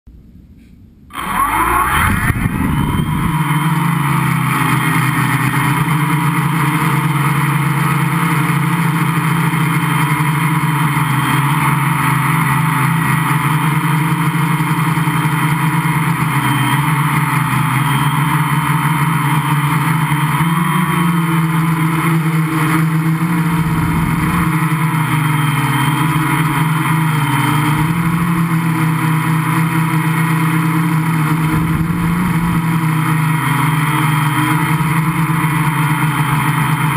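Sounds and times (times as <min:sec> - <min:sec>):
quadcopter motors buzzing: 0:01.1 - 0:36.9.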